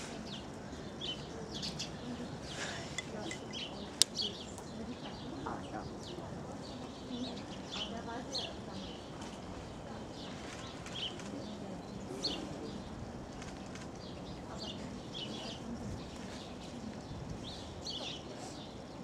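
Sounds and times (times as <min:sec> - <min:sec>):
background murmur: 0:00.0 - 0:19.0
small birds chirping: 0:00.0 - 0:19.0.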